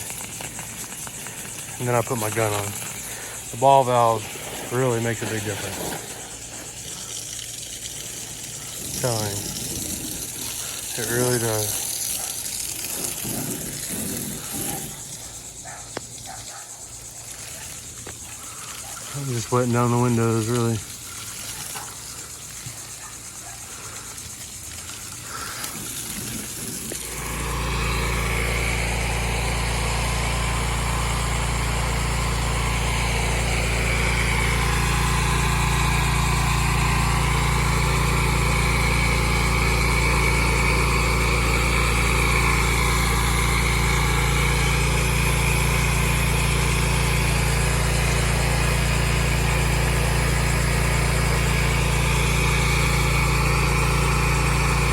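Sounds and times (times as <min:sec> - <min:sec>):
pressure washer engine running: 0:00.0 - 0:54.9
spray hissing: 0:00.0 - 0:54.9.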